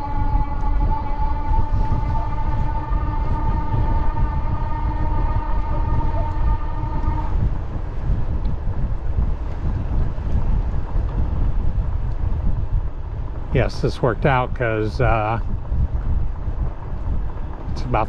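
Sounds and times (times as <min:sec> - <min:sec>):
train high steady tone: 0:00.0 - 0:18.0
train low rumble: 0:00.0 - 0:18.0.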